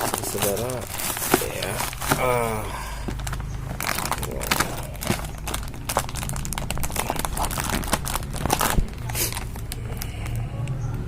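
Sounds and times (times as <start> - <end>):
wrapping being torn open: 0.0 - 10.4.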